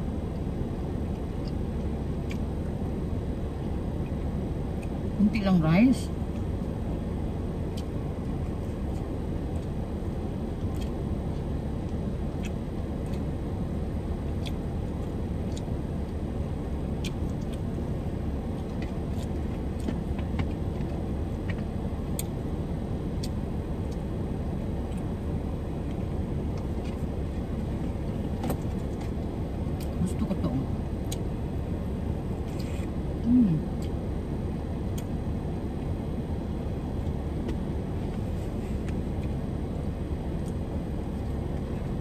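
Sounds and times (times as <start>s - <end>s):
car interior rumble: 0.0s - 42.0s.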